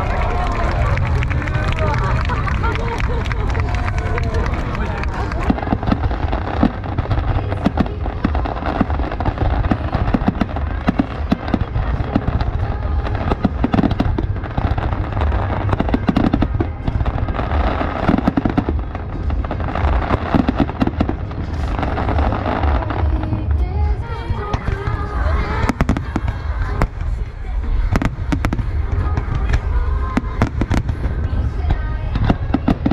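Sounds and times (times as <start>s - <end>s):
deep low rumble: 0.0s - 32.9s
fireworks bangs and crackles: 0.0s - 32.9s.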